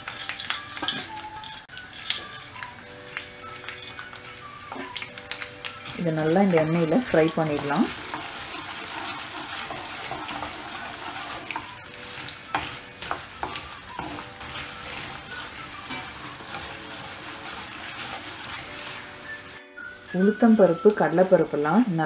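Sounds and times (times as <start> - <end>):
wooden spatula stirring: 0.0 - 19.6
lentils sizzling in hot oil: 0.0 - 22.0.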